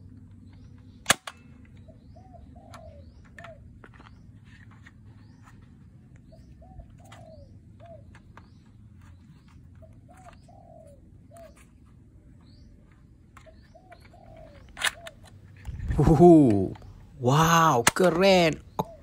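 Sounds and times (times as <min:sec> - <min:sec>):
doves cooing: 0:00.0 - 0:19.0.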